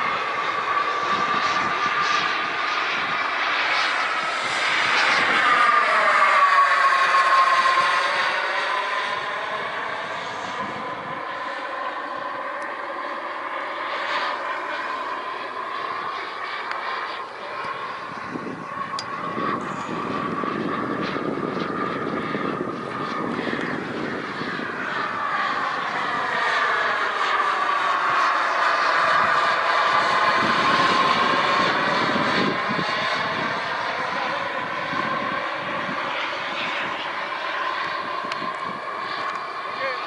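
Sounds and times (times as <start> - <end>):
model jet engine whining: 0.0 - 40.0.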